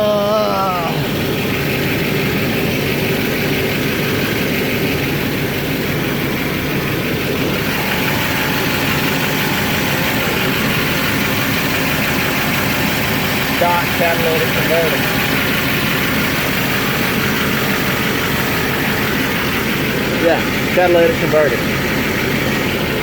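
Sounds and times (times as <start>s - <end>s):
diesel pickup truck idling: 0.0s - 23.0s.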